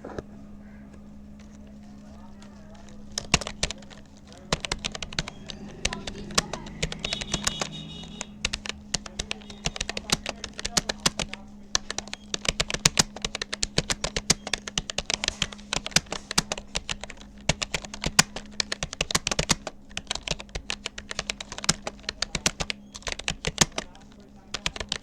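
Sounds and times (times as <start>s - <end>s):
faint steady hum: 0.0s - 25.0s
keyboard typing: 0.9s - 25.0s.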